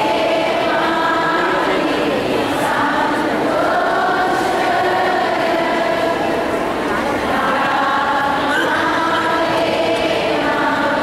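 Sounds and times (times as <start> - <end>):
choir singing slowly: 0.0 - 11.0.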